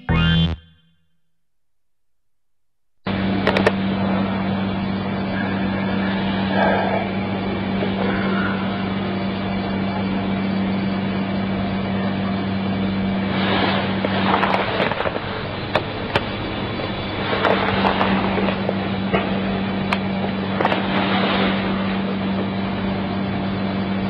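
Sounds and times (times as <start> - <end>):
low electrical hum: 1.3 - 24.0.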